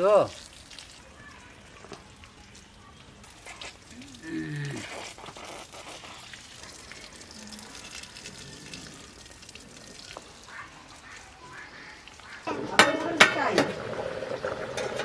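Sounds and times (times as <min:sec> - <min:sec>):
rustling plants: 0:00.0 - 0:13.6.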